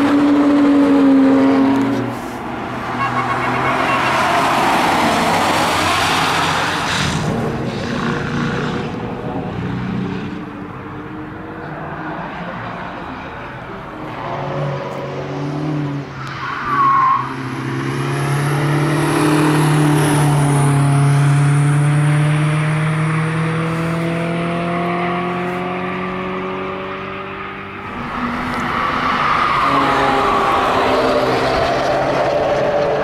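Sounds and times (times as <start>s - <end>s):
race car engine at high revs: 0.0s - 16.3s, 17.1s - 33.0s.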